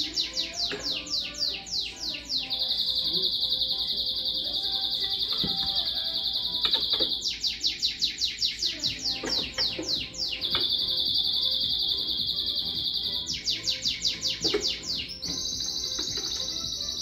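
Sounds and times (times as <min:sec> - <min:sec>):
bird trilling and chirping: 0:00.0 - 0:17.0
faint background music: 0:00.0 - 0:17.0.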